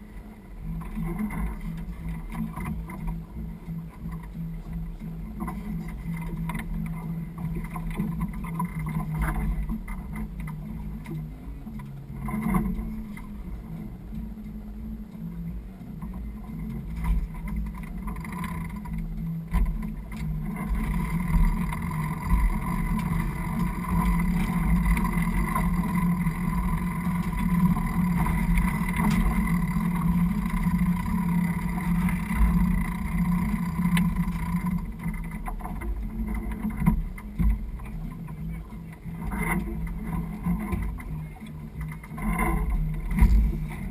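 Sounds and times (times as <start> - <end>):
steady hum: 0.0 - 43.9
water and wind against hull: 0.0 - 43.9.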